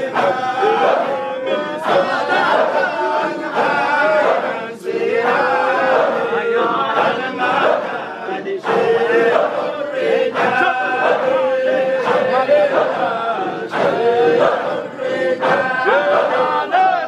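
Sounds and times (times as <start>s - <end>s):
lead voice on a microphone: 0.0s - 17.0s
men chanting together: 0.0s - 17.0s.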